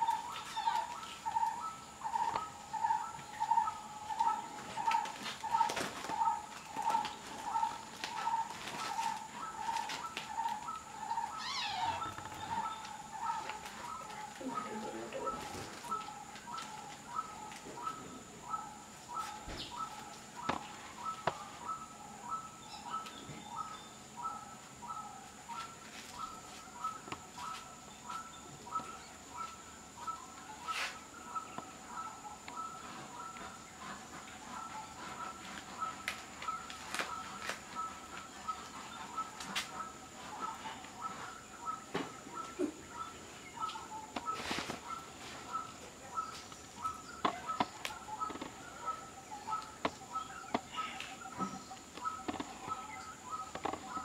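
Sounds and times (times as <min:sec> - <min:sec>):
bird calling: 0:00.0 - 0:54.0
steady high-pitched whine: 0:00.0 - 0:54.0.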